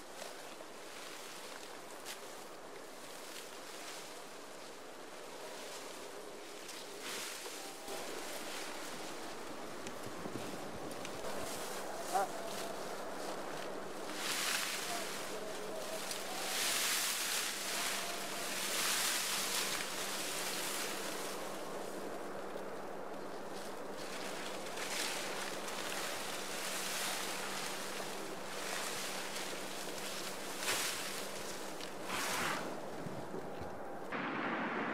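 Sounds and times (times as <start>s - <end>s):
dry cane leaves rustling: 0.0s - 34.2s.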